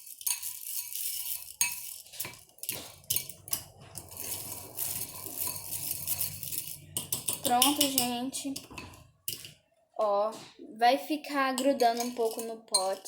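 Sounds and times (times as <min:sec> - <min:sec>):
spoon clinking and scraping bowl: 0:00.0 - 0:09.7, 0:11.6 - 0:13.0.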